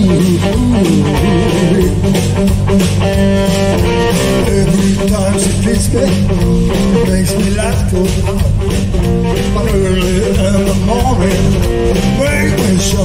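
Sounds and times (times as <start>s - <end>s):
bass: 0.0s - 13.0s
drums: 0.0s - 13.0s
electric guitar: 0.0s - 13.0s.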